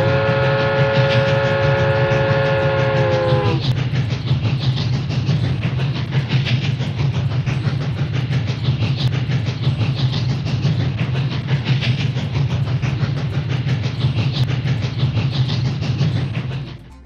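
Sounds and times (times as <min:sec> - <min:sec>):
train low rumble: 0:00.0 - 0:17.0
train wheels clattering: 0:00.0 - 0:17.0.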